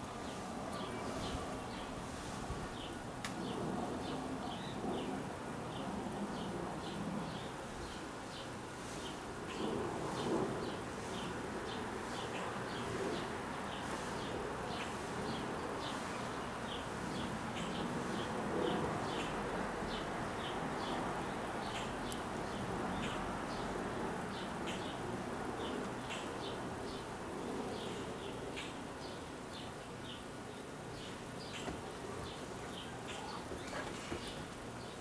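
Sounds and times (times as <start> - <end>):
small birds chirping: 0.0 - 35.0
steady rushing noise: 0.0 - 35.0.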